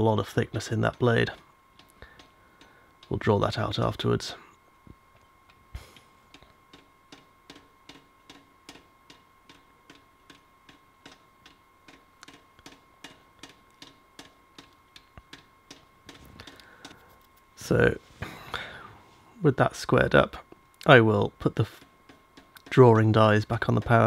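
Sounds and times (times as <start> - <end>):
faint high hum: 0.0 - 24.0.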